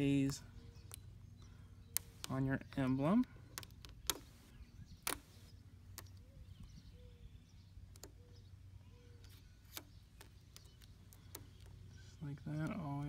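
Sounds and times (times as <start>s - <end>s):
tape peeling ticks: 0.0s - 6.4s, 7.8s - 8.4s, 9.1s - 13.0s
low steady hum: 0.0s - 13.0s.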